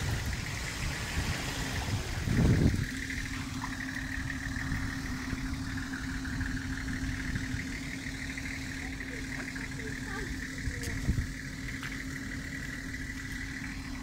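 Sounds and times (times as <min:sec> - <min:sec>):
vehicle engine running low: 0:00.0 - 0:14.0.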